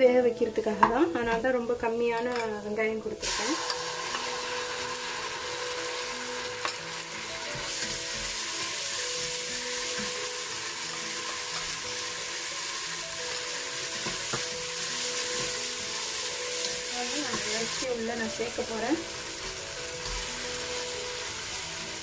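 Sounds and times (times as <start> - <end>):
onions sizzling: 0.0 - 22.0.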